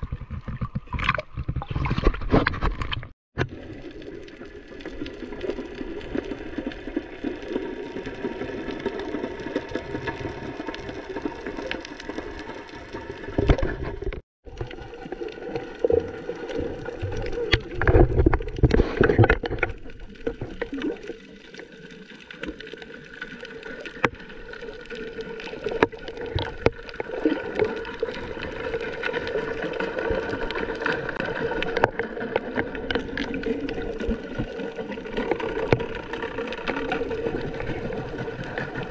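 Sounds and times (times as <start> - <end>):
water splashing and bubbling: 0.0 - 38.9
muffled underwater rush: 3.4 - 38.9.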